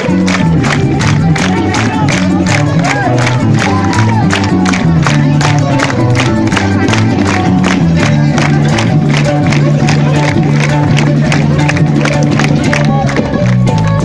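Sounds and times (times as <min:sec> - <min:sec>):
bass guitar notes: 0:00.0 - 0:14.0.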